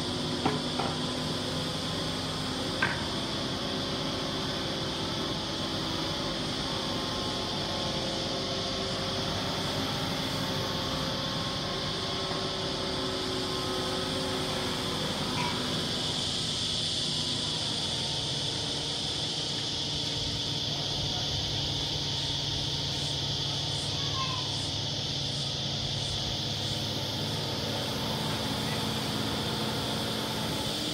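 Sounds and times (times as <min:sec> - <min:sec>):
constant high buzz: 0:00.0 - 0:30.9
crane engine and hydraulics running: 0:00.0 - 0:30.9.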